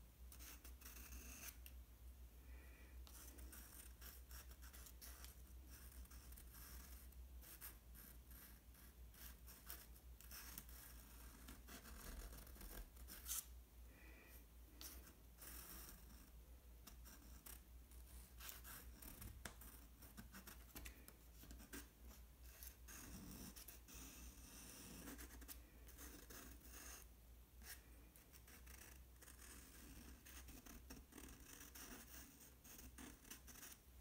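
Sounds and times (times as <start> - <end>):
pencil scratching on paper: 0.3 - 1.7, 3.0 - 13.5, 14.8 - 34.0.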